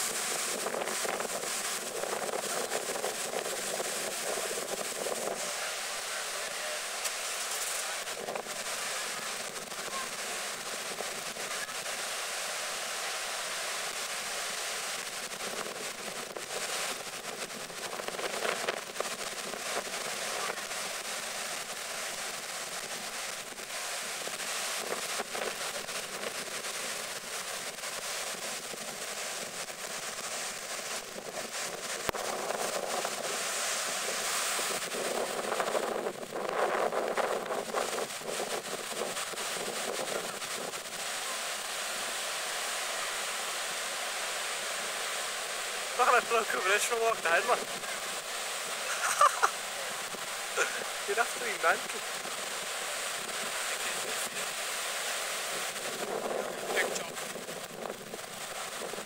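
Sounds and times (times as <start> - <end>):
surf breaking on shore: 0.0 - 59.0
wind gusting on microphone: 0.0 - 59.0.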